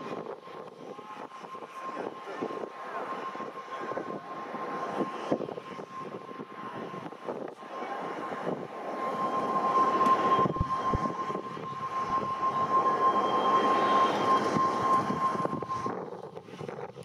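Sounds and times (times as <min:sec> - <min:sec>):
jet engines whining: 0:00.0 - 0:16.7.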